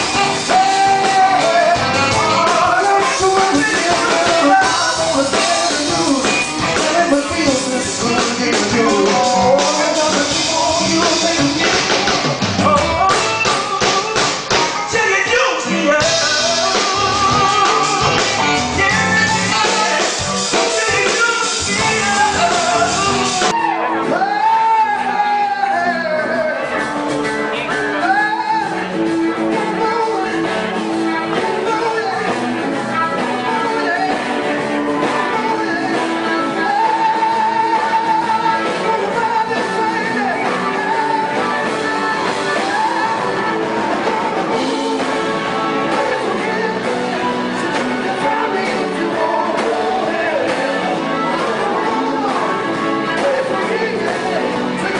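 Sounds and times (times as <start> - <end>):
live rock band playing: 0.0 - 54.9
man singing: 0.0 - 54.9.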